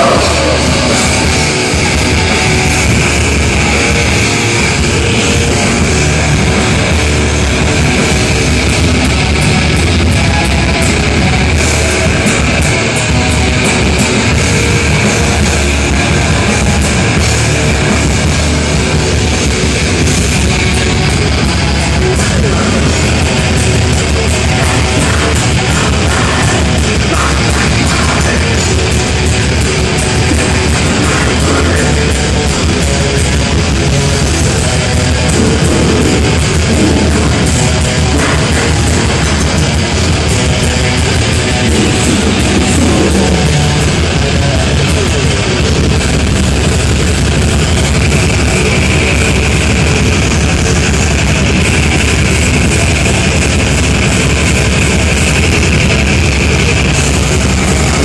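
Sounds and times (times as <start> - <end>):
heavy metal band playing live: 0.0 - 58.0
high guitar line: 0.0 - 58.0.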